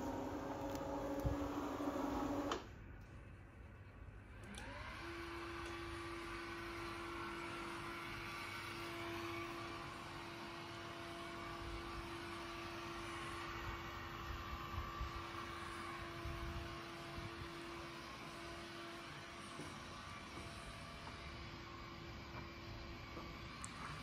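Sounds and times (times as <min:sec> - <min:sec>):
electric blind motor humming: 0:00.0 - 0:02.7, 0:04.5 - 0:24.0.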